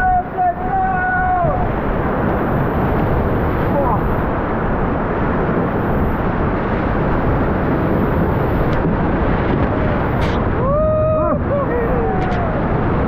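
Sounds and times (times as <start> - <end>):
whitewater rapids rushing: 0.0 - 13.0
wind buffeting microphone: 0.0 - 13.0.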